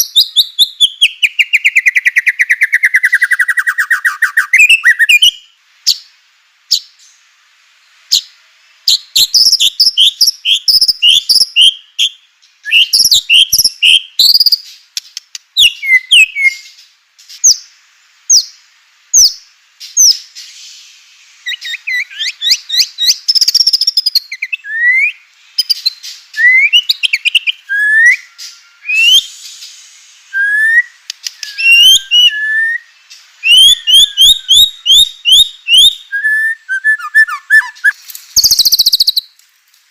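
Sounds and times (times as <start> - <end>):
bird singing loud varied song: 0.0 - 39.4.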